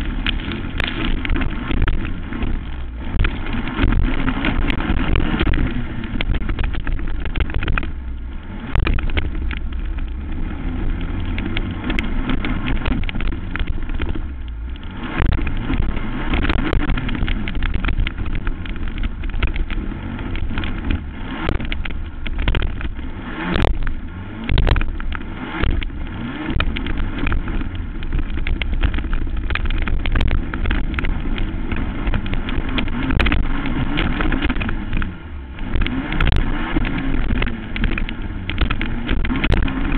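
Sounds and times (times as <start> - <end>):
knocks and rattles: 0.0 - 39.9
quad engine running hard: 0.0 - 39.9.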